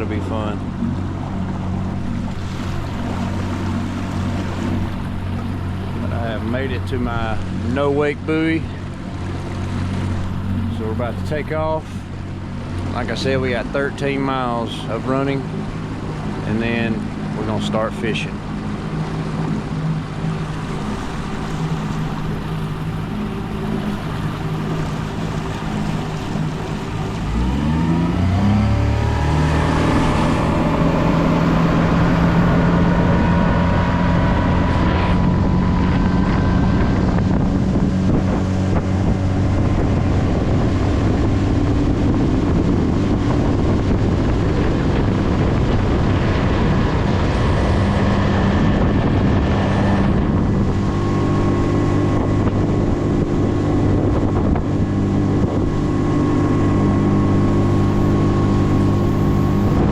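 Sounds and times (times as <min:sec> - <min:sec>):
boat motor running at high speed: 0:00.0 - 0:59.9
wind on microphone: 0:00.0 - 0:59.9.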